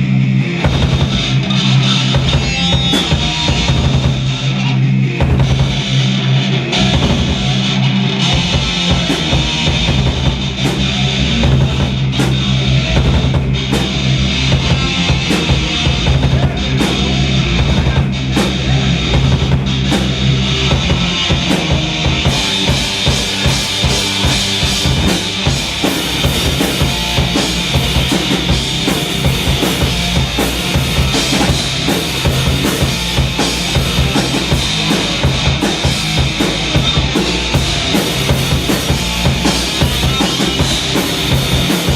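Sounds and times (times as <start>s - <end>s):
rock band playing: 0.0s - 41.9s
drum kit kick and snare: 0.6s - 4.4s, 5.2s - 6.1s, 6.8s - 41.9s.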